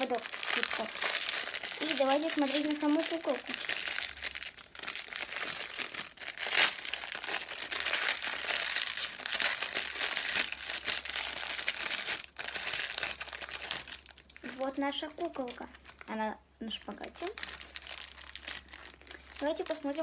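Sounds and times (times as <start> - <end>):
crinkly wrapper crackling: 0.0 - 20.0.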